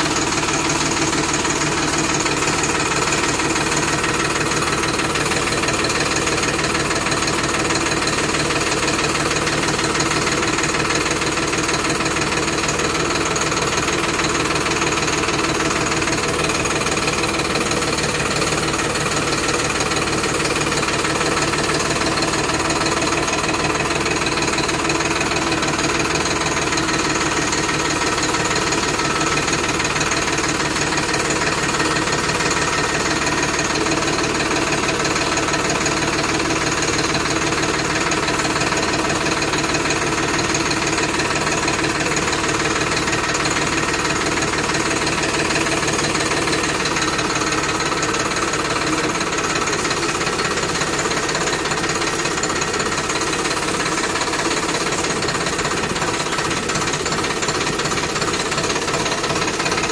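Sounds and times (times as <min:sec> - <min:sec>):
tractor diesel engine clattering: 0:00.0 - 0:59.9.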